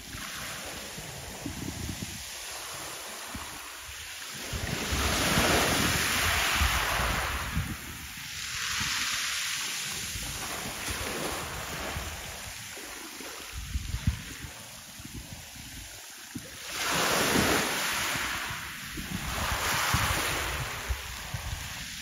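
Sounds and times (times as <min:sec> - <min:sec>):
wind buffeting microphone: 0:00.0 - 0:03.6, 0:04.4 - 0:09.2, 0:10.0 - 0:22.0
small waves washing ashore: 0:00.0 - 0:22.0.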